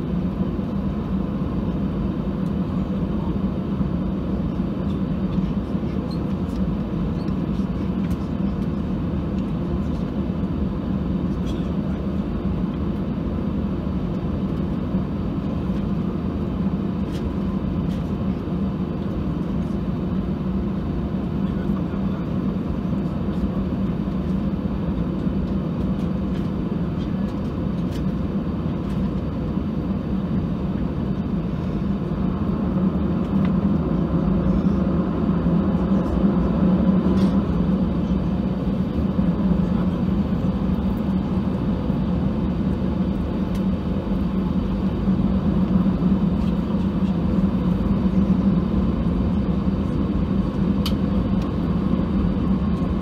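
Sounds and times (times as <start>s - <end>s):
airplane cabin hum and rumble: 0.0s - 53.0s.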